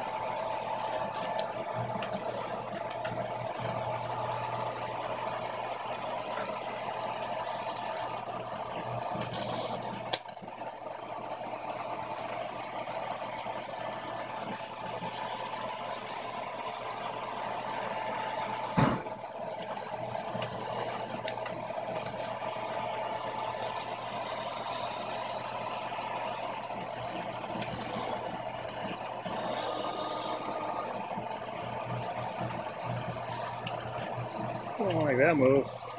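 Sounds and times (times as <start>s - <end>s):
machine mechanical hum: 0.0s - 35.9s.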